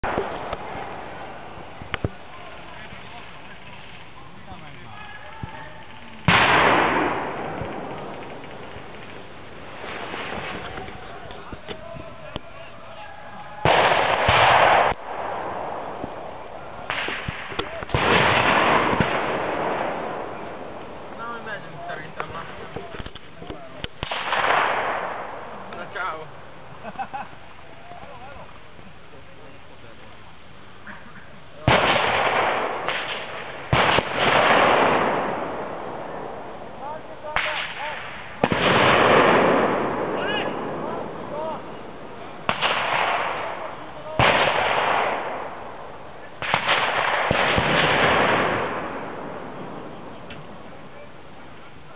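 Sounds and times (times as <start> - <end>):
pyrotechnic bangs: 0.0 - 4.8, 5.8 - 12.4, 13.6 - 26.4, 31.6 - 50.7.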